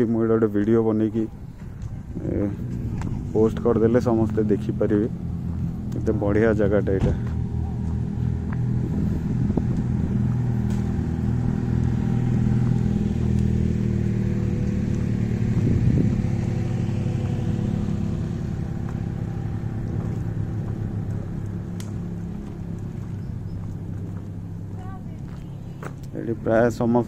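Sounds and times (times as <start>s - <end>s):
engine humming: 0.0s - 27.0s.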